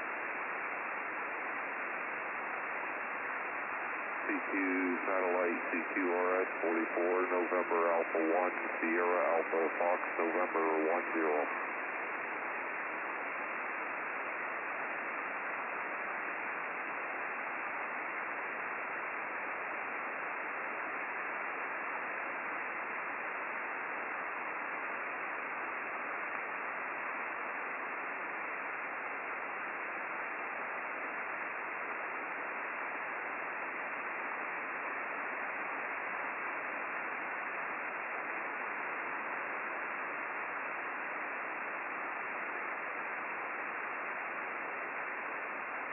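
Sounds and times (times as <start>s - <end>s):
radio receiver static hiss: 0.0s - 45.9s.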